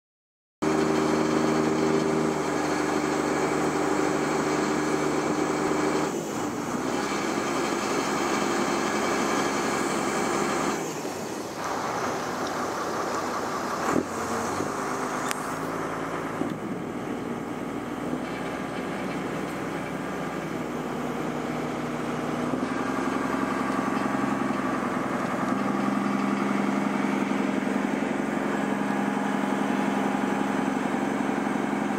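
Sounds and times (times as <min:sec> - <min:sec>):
ferry engine running: 0:00.6 - 0:31.9.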